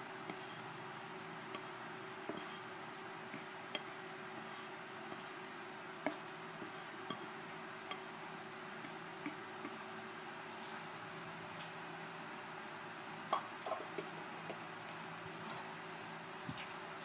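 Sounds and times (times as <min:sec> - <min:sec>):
room hiss: 0:00.0 - 0:17.0.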